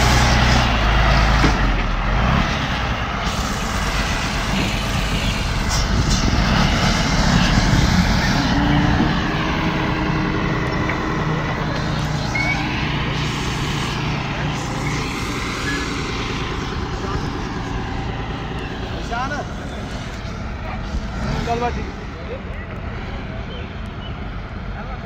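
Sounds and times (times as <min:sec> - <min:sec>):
truck diesel engine: 0:00.0 - 0:25.0.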